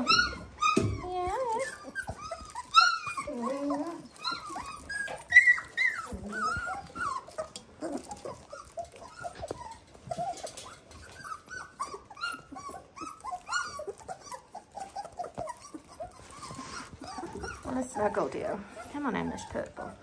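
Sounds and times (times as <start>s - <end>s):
puppies squeaking and whining: 0.0s - 20.0s.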